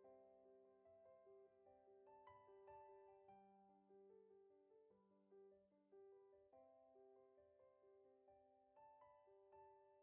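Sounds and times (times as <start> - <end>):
soft piano melody: 0.0 - 10.0.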